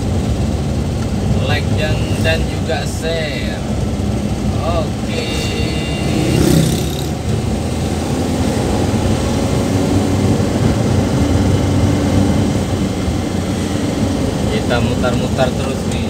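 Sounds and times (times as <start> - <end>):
engine drone: 0.0 - 16.0
road noise: 0.0 - 16.0.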